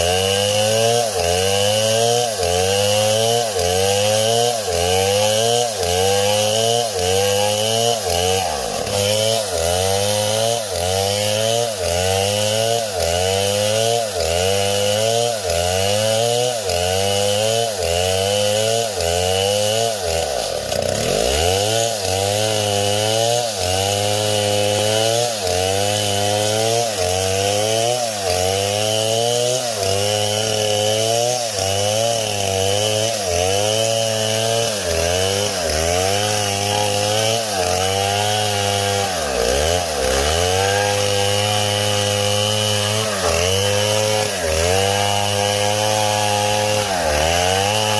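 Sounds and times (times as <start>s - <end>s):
chainsaw running and cutting: 0.0s - 47.9s.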